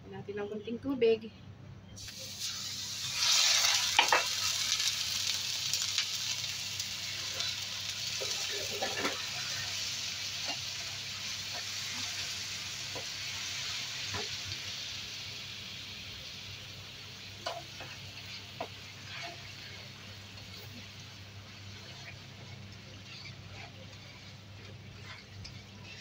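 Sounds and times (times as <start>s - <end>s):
sugar syrup sizzling in pan: 2.0s - 26.0s.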